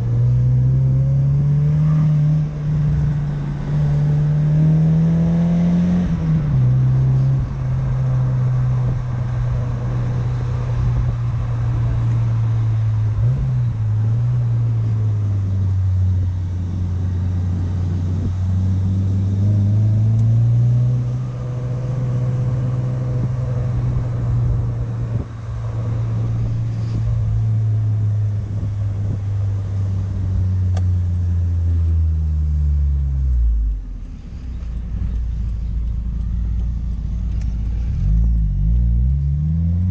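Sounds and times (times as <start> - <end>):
car engine under way: 0.0 - 39.9.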